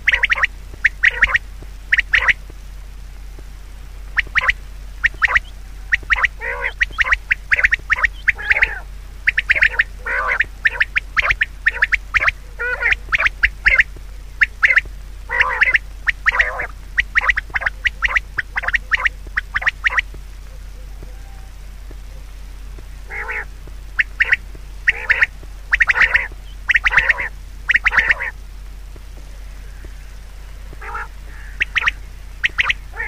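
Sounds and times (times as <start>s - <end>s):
birds calling harshly: 0.0s - 2.5s, 4.1s - 33.0s
drawn-out bird calls: 0.0s - 2.5s, 4.1s - 33.0s.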